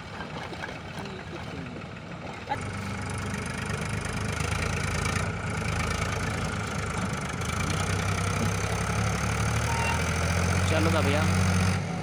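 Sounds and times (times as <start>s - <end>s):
diesel engines straining: 0.0s - 12.0s.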